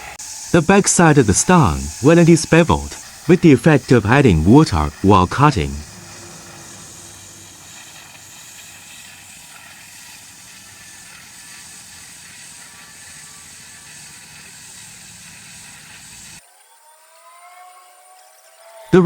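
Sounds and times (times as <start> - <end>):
wire saw cutting stone: 0.0 - 16.4.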